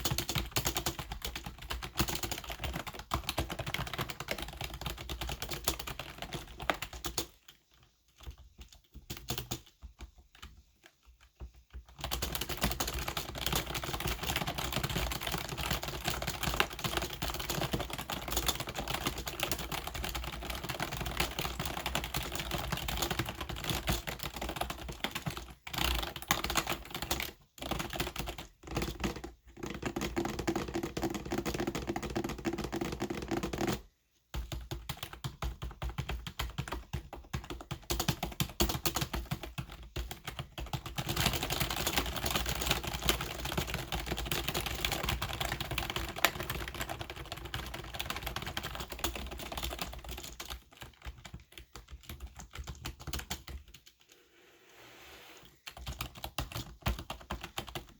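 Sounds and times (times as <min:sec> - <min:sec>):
computer keyboard typing: 0:00.0 - 0:54.1, 0:55.6 - 0:57.9.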